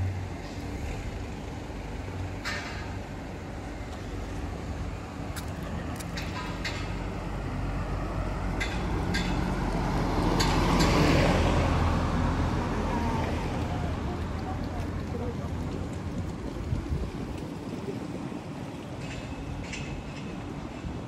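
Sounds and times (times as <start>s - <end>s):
vehicle passing rumble: 0.0s - 19.7s.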